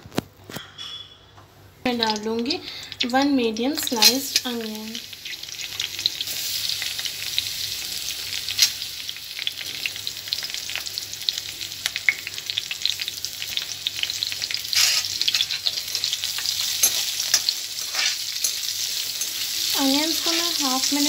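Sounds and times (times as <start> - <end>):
onion sizzling in hot oil: 1.9 - 21.0.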